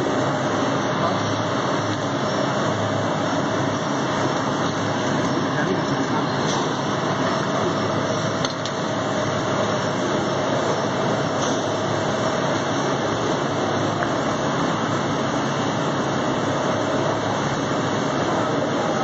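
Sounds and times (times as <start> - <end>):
factory assembly line rushing: 0.0 - 19.0.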